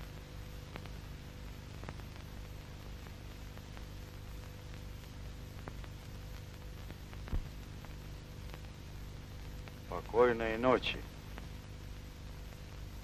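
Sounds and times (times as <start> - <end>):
faint crackles: 0.0 - 13.0
film soundtrack hiss: 0.0 - 13.0
low hum: 0.0 - 13.0.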